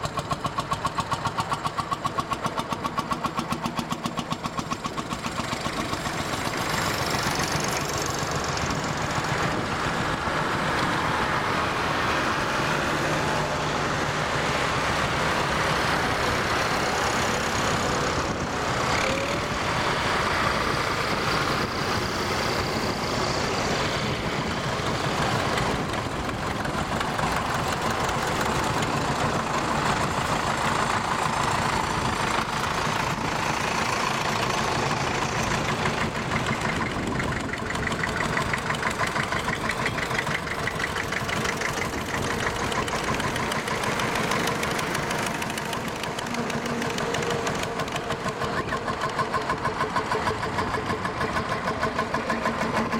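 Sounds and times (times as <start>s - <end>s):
tractor engines driving past: 0.0s - 52.9s.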